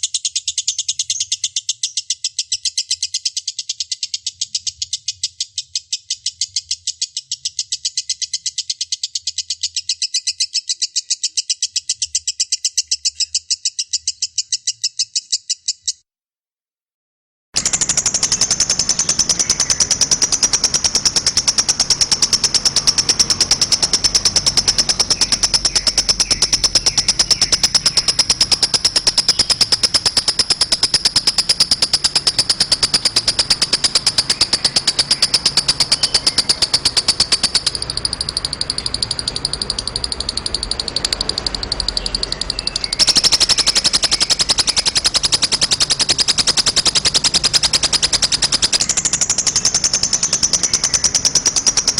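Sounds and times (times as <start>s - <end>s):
lovebird chattering trill: 0.0s - 16.0s, 17.6s - 51.9s.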